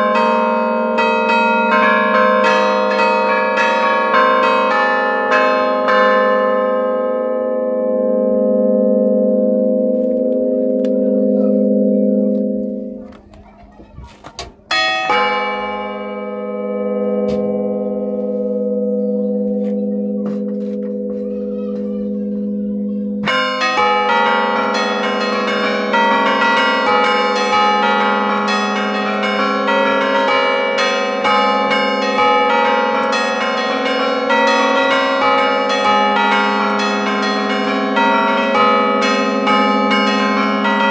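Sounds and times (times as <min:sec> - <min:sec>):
church bell humming: 0:00.0 - 0:13.7, 0:14.7 - 0:40.9
church bells fast melodic run: 0:00.0 - 0:13.8, 0:14.7 - 0:40.9.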